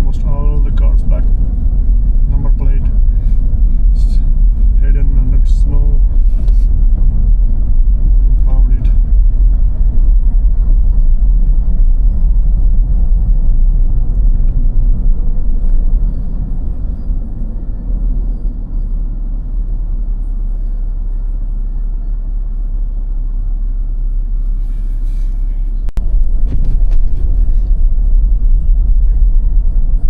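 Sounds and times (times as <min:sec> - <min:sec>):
car driving on snowy road: 0:00.0 - 0:30.0.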